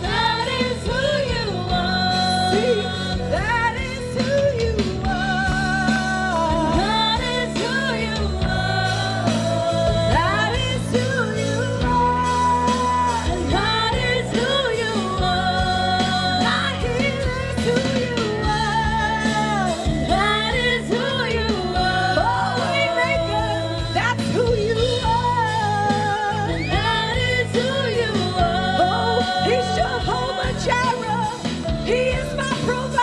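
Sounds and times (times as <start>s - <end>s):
worship band with singers: 0.0s - 33.0s.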